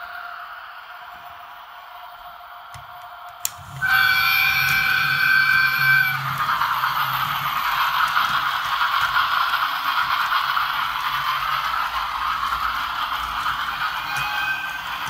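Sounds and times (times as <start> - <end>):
toy train whirring rattle: 2.8 - 15.0.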